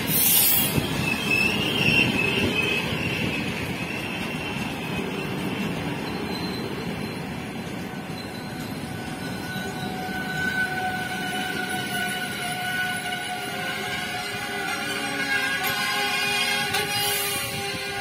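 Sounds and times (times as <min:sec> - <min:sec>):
train brakes squealing: 0:00.0 - 0:18.0
train wheels rumbling over rails: 0:00.0 - 0:18.0.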